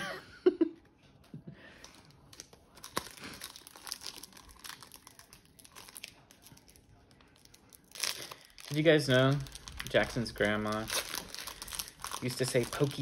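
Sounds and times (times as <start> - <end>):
foil wrapper crinkling and tearing: 1.8 - 13.0.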